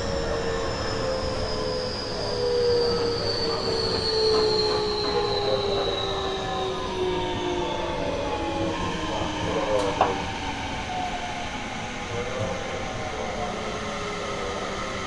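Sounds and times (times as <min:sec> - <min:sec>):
electric train inverter whine: 0:00.0 - 0:15.0
train running noise: 0:00.0 - 0:15.0.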